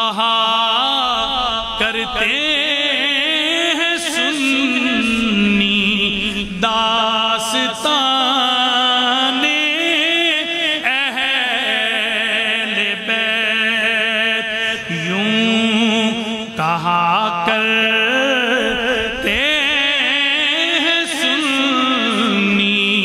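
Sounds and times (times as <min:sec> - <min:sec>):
man singing devotional poem: 0:00.0 - 0:23.0.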